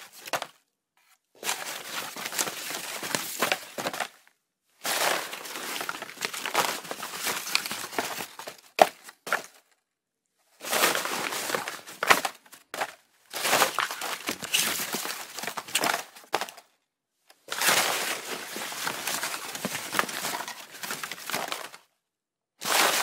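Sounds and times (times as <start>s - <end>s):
hands rummaging through cardboard: 0.0s - 4.2s, 4.8s - 9.7s, 10.6s - 16.7s, 17.4s - 21.9s, 22.6s - 23.0s.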